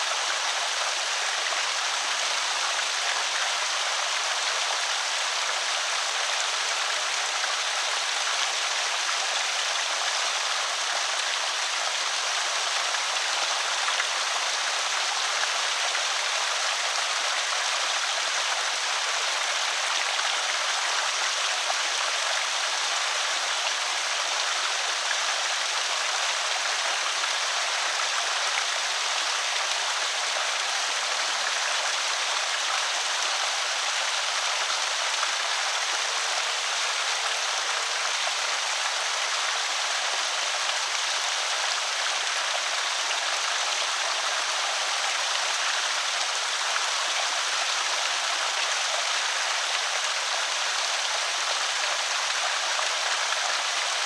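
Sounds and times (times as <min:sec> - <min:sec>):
creek water over spillway: 0:00.0 - 0:54.0.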